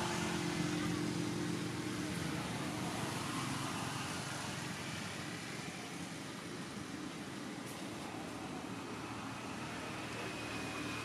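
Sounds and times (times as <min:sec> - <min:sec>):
steady outdoor hiss: 0:00.0 - 0:11.0
vehicle engine hum: 0:00.0 - 0:11.0.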